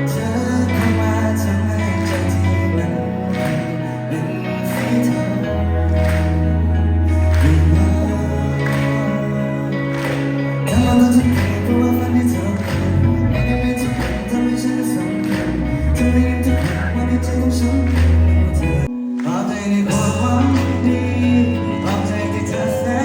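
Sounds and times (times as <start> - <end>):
live indie band with vocals: 0.0 - 23.0.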